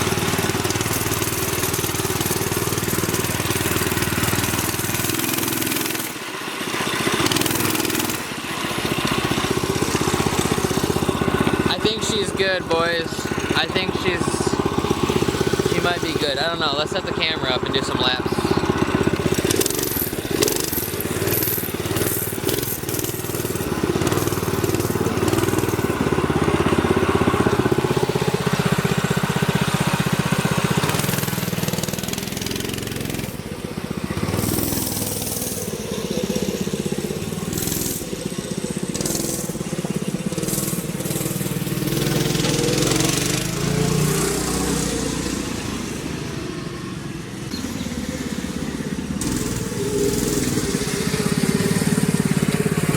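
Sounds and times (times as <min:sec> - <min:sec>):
mini bike engine revving: 0:00.0 - 0:52.9.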